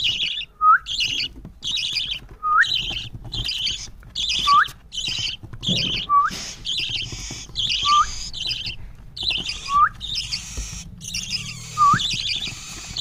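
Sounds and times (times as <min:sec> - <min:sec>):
parrot chicks raspy begging calls: 0:00.0 - 0:13.0.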